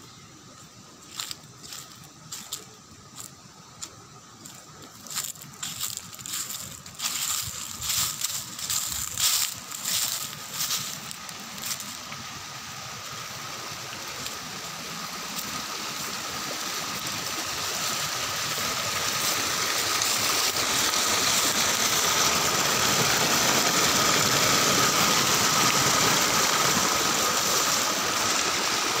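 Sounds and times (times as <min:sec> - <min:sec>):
stream rushing over rocks: 0:00.9 - 0:29.0.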